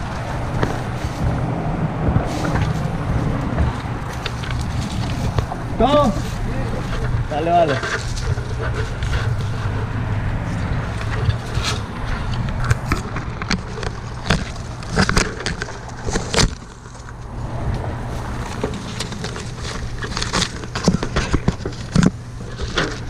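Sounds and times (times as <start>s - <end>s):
tree branches cracking and snapping: 0.0s - 7.0s, 10.8s - 23.0s
low engine hum: 0.0s - 23.0s.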